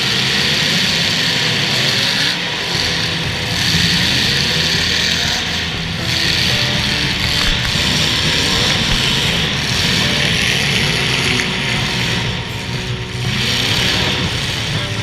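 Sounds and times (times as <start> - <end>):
car engines running loudly: 0.0 - 15.0.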